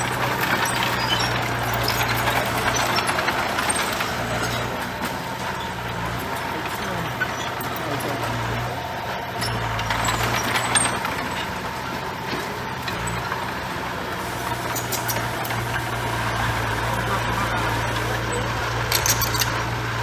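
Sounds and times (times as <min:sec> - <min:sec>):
clanks and rattles: 0:00.0 - 0:20.0
diesel machine running: 0:00.0 - 0:20.0.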